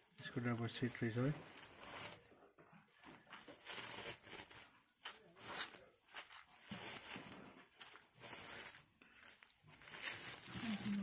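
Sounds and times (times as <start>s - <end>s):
rustling and scraping of tools: 0.2s - 11.0s.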